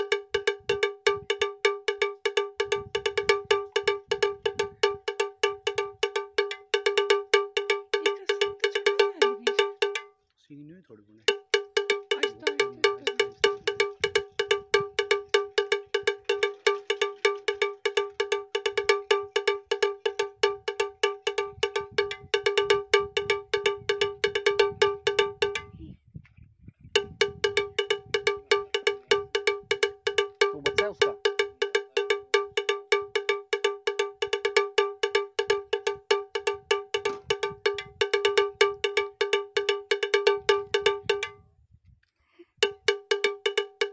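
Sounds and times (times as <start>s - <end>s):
small metal bell ringing rapidly: 0.0s - 10.2s, 11.3s - 25.8s, 27.0s - 41.5s, 42.6s - 43.9s.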